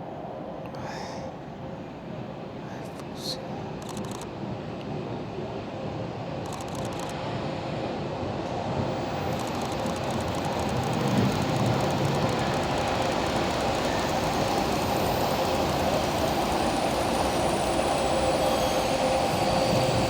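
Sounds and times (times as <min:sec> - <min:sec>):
steam train running on rails: 0:02.0 - 0:20.0.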